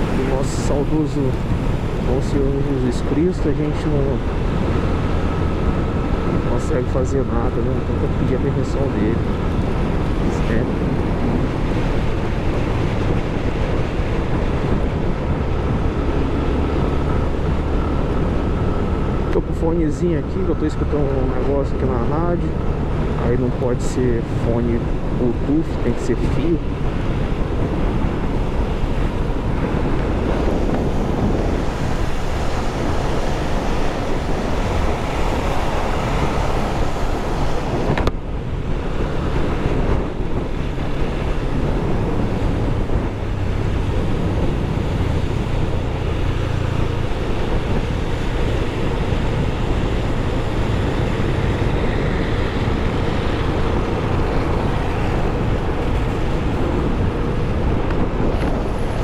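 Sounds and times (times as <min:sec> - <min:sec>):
road noise: 0:00.0 - 0:59.0
wind rushing over microphone: 0:00.0 - 0:59.0.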